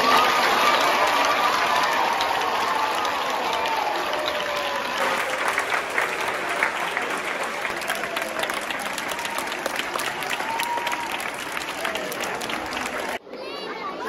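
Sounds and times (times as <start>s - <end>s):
children clapping: 0.0s - 13.2s.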